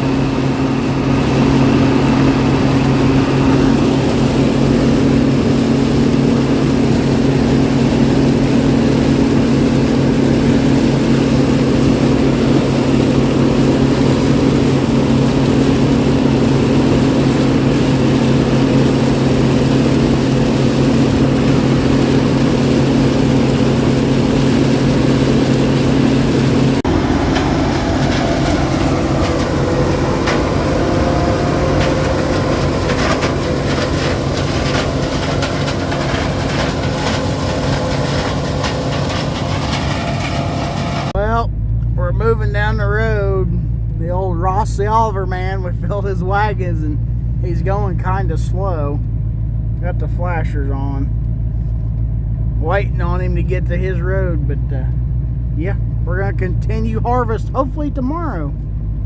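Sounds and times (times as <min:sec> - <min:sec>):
combine engine hum: 0:00.0 - 0:59.0.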